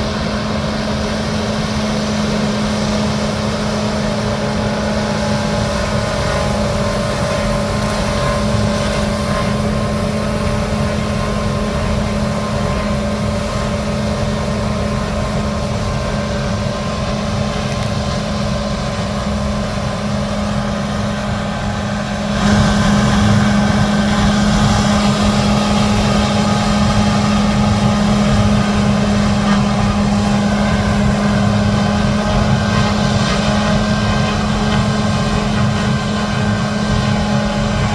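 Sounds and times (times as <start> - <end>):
diesel harvest machinery running: 0.0 - 37.9.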